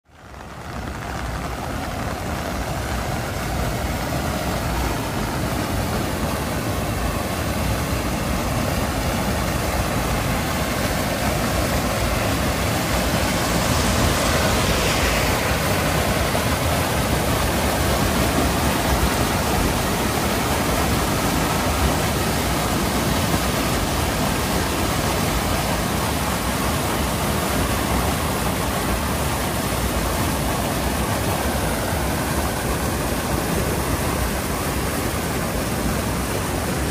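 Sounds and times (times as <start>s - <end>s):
floodwater rushing over a drop: 0.0s - 36.9s.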